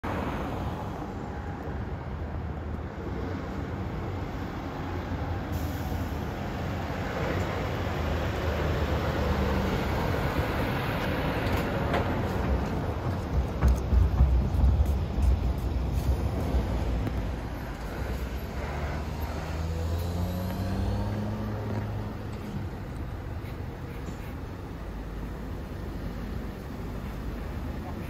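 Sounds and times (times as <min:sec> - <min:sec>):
tyre noise on road: 0:00.0 - 0:28.0
diesel truck engine rumble: 0:05.2 - 0:28.0.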